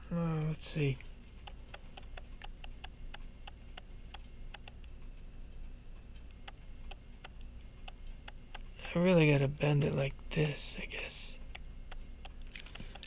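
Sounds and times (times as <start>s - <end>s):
sharp metallic ticks: 0.4s - 4.9s, 5.6s - 13.0s.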